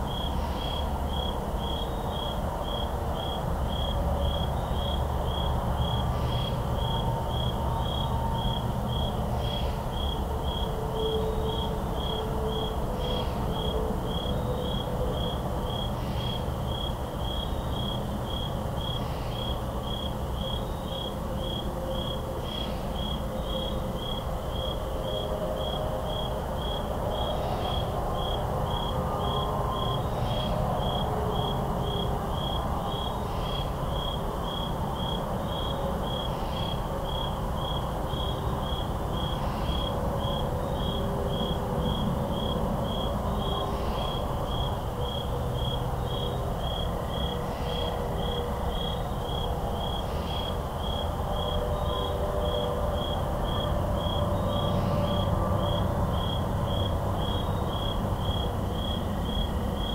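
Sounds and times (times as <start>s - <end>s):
crickets chirping: 0.0s - 59.9s
distant highway traffic hum: 0.0s - 59.9s.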